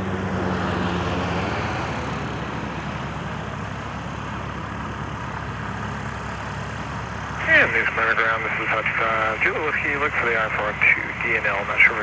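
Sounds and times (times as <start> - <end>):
aircraft engine drone: 0.0 - 12.0.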